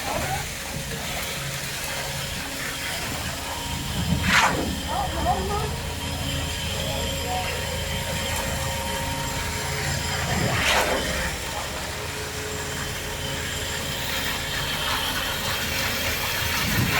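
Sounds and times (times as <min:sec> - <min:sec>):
construction machinery engine hum: 0:00.0 - 0:16.9.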